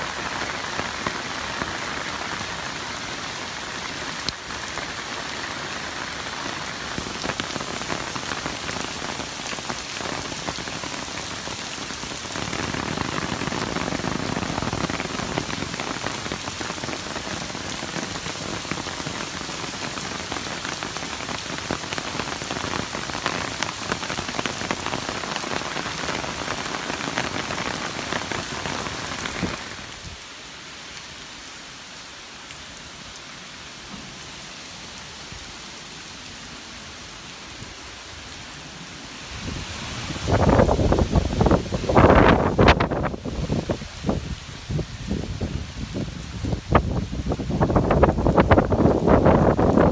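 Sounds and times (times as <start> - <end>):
heavy rain on a wet street: 0.0 - 49.9.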